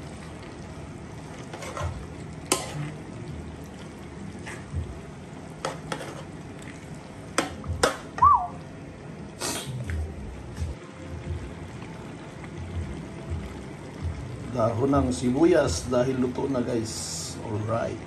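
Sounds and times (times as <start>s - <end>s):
food sizzling in pan: 0.0s - 8.6s, 10.8s - 18.0s.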